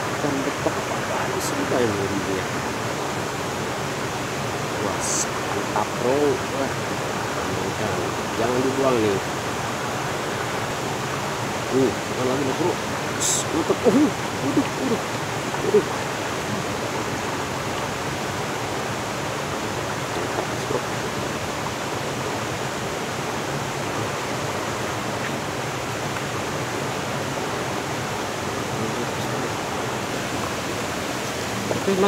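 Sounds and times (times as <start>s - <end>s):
waterfall pouring into pool: 0.0s - 32.0s.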